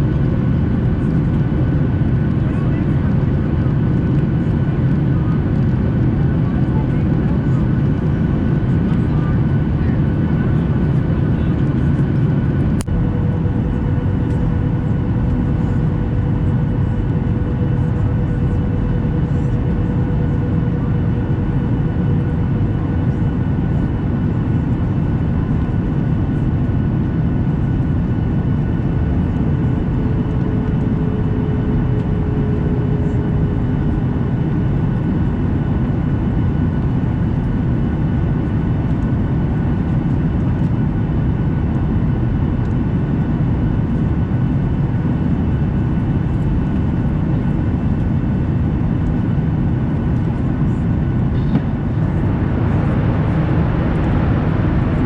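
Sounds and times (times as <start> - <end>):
jet engine roar in cabin: 0.0 - 55.0
thin steady whines: 0.0 - 55.0.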